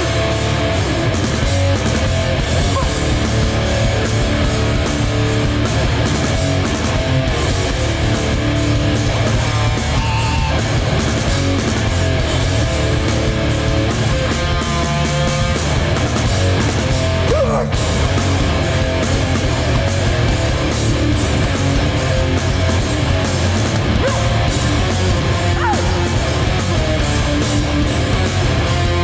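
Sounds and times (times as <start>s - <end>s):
bass guitar: 0.0s - 29.0s
distorted electric guitars: 0.0s - 29.0s
drums hit hard: 0.0s - 29.0s.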